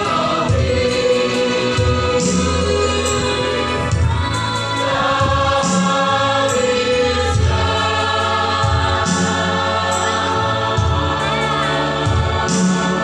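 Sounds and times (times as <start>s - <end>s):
backing music with bass and beats: 0.0s - 13.0s
choir singing gospel: 0.0s - 13.0s.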